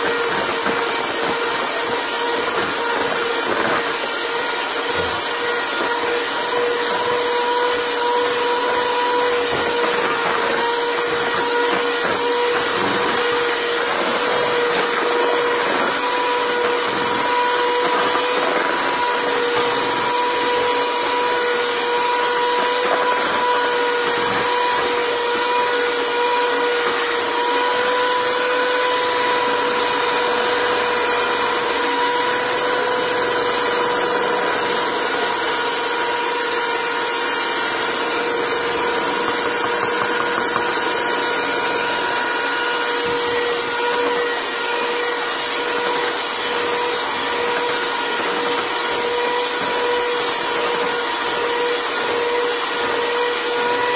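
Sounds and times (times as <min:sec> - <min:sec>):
electric hand mixer running: 0:00.0 - 0:53.9.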